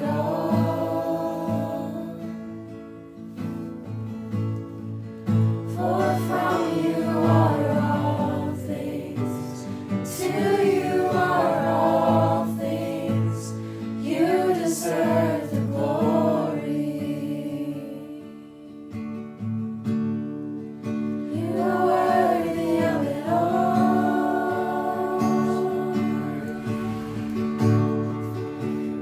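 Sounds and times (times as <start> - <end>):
voices singing worship song: 0.0 - 2.8, 5.6 - 18.7, 21.2 - 29.0.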